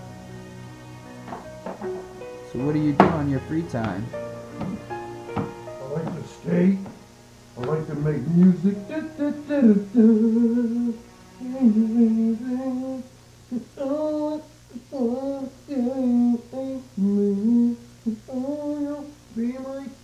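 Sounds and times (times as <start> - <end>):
steady low hum: 0.0 - 20.0
person humming: 2.6 - 7.0, 7.6 - 20.0.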